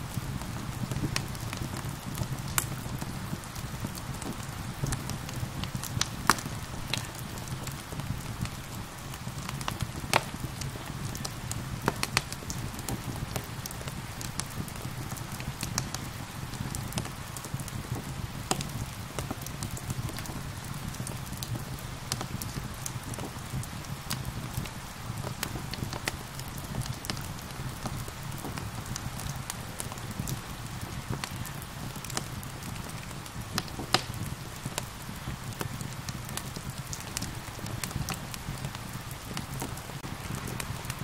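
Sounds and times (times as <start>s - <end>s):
gentle rain hissing: 0.0s - 41.0s
wood fire crackling and popping: 0.0s - 41.0s.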